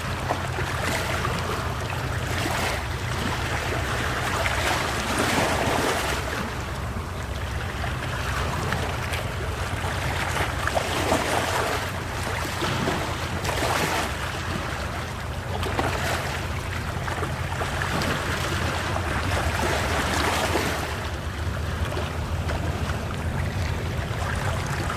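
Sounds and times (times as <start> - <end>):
sea waves washing ashore: 0.0 - 24.9.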